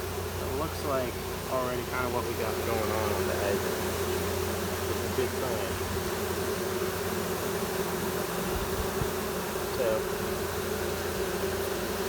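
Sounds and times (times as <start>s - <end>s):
bee swarm buzzing: 0.0s - 12.0s
single bee passing close: 0.0s - 12.0s.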